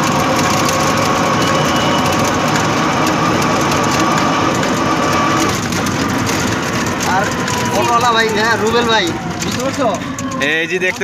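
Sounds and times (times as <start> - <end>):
auto-rickshaw rattle: 0.0 - 11.0
road noise: 0.0 - 11.0.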